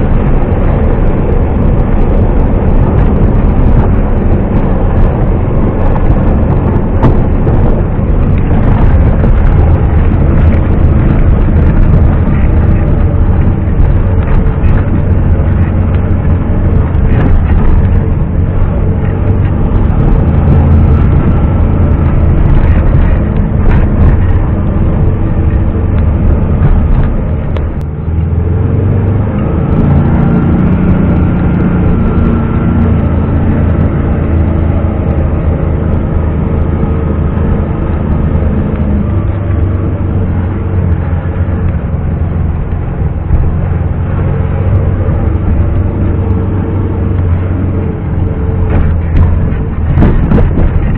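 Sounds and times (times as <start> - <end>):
car engine droning: 0.0 - 50.9.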